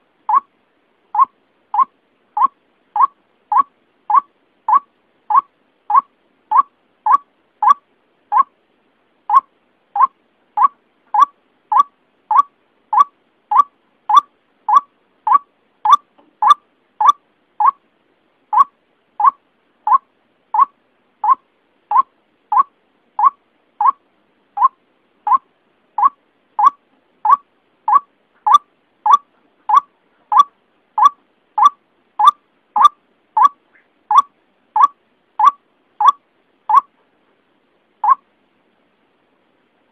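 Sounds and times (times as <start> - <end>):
waterhen calling: 0.0 - 0.5, 1.1 - 8.5, 9.3 - 17.8, 18.5 - 24.0, 24.6 - 36.9, 38.0 - 38.3.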